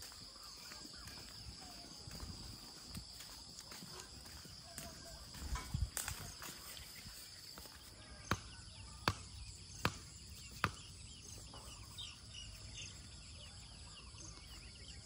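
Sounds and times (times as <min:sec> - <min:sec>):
faint bird chirps: 0:00.0 - 0:15.0
insects chirring: 0:00.0 - 0:15.0.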